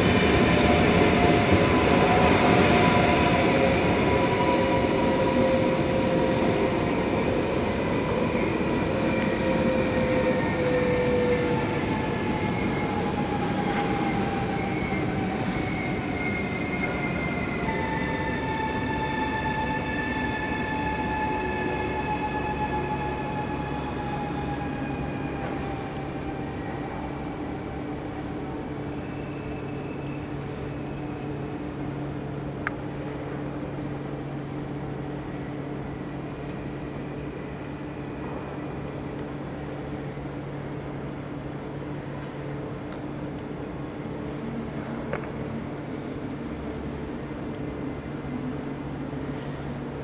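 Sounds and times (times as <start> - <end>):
electric train whine: 0.0 - 50.0.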